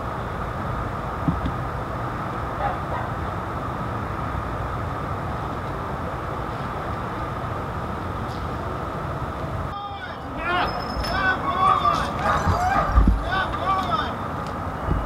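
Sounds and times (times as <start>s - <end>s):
constant hum: 0.0s - 15.0s
outdoor background rumble: 0.0s - 15.0s.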